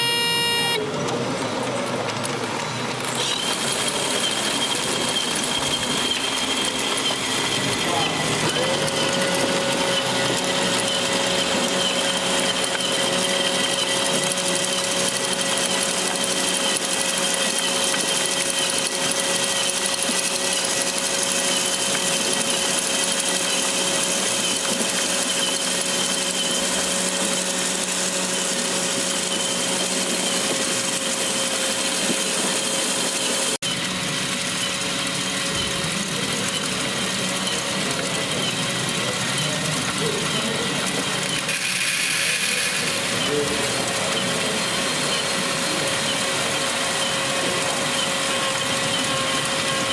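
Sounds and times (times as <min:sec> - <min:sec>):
small electric motors whining: 0:00.0 - 0:49.9.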